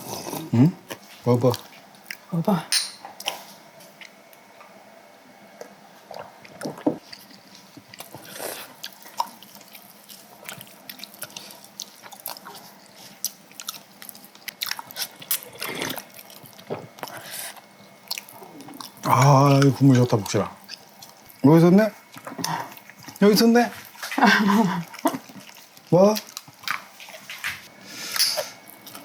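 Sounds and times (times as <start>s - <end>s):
wet chewing: 0.0s - 2.3s, 5.6s - 29.0s.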